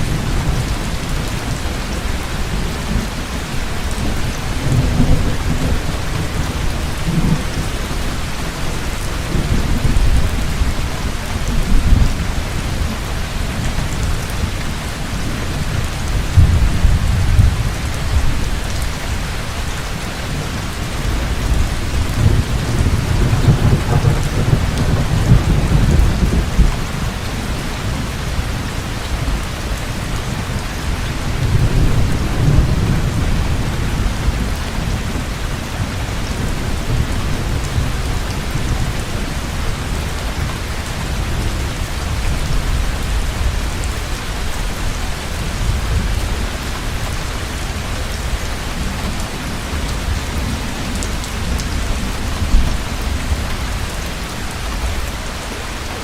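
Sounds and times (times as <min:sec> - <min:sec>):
low thunder rumbling: 0:00.0 - 0:47.1, 0:47.7 - 0:55.1
heavy rain falling: 0:00.0 - 0:56.0.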